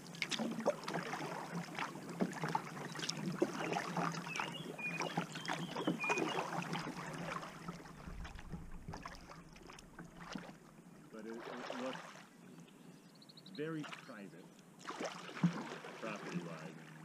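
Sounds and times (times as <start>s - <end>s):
kayak paddle strokes splashing: 0.0s - 12.4s, 13.8s - 17.0s.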